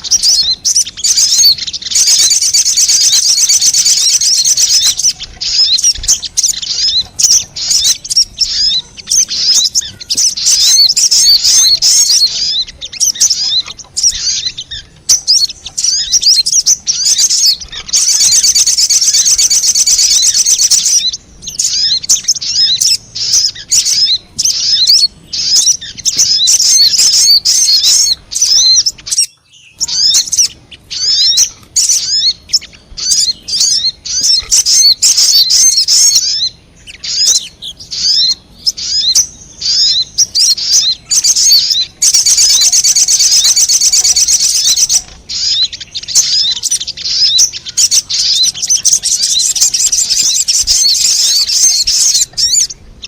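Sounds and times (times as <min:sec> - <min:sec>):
bird chirping and trilling: 0:00.0 - 0:53.0.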